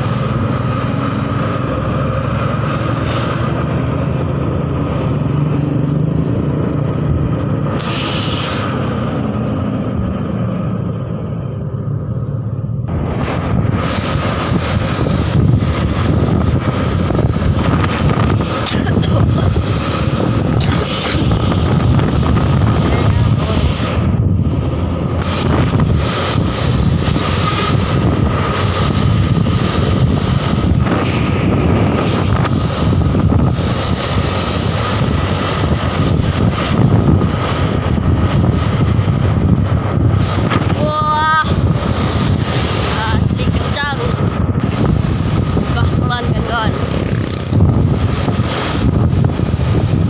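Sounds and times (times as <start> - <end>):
road and engine noise: 0.0 - 50.0
wind on microphone: 0.0 - 50.0.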